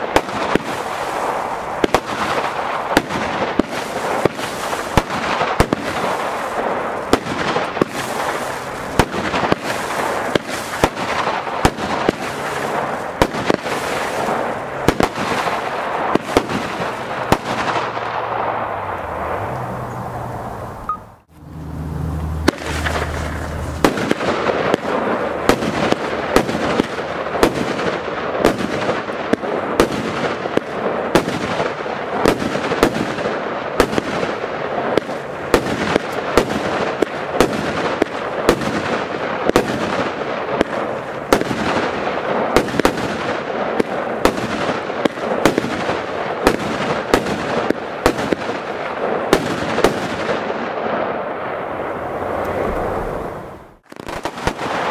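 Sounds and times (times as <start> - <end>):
firework bangs: 0.0 - 54.9.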